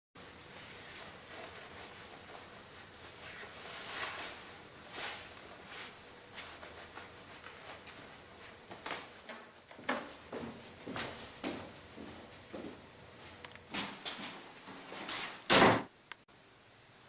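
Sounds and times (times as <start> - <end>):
clothing rustling: 0.4 - 15.5.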